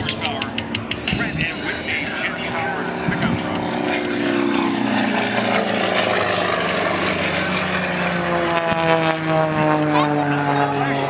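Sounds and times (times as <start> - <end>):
propeller aircraft engine droning: 0.0 - 11.0.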